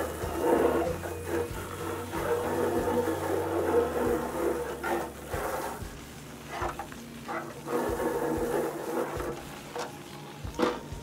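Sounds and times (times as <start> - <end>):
hose water splashing on plastic: 0.0 - 11.0.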